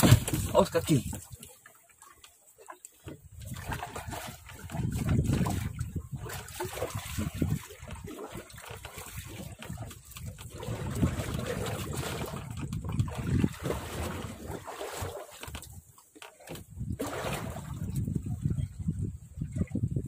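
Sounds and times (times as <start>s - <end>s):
water splashing and trickling: 0.0s - 20.0s
wind rumbling on microphone: 3.1s - 20.0s.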